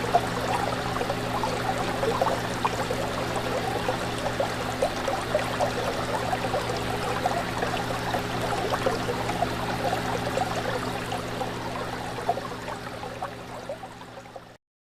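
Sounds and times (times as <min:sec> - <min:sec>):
steady low hum: 0:00.0 - 0:14.4
fish tank water bubbling: 0:00.0 - 0:14.6.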